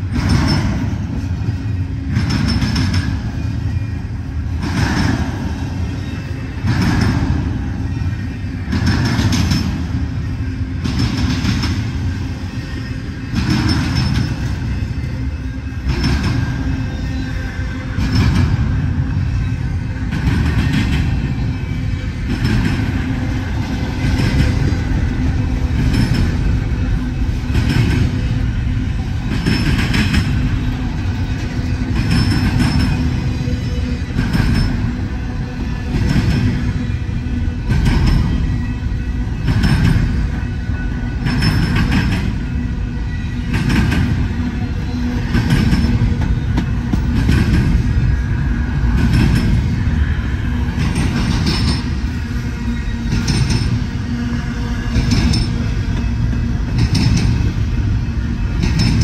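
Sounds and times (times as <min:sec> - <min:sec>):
heavy train rumble: 0:00.0 - 0:59.0.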